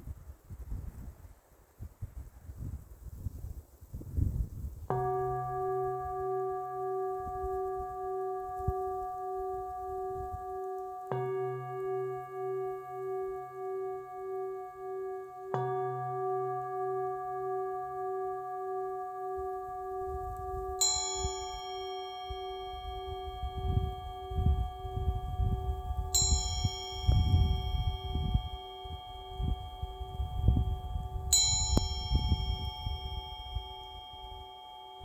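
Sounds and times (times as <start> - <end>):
singing bowl ringing: 4.9 - 35.0
higher-pitched bell ringing: 5.0 - 35.0.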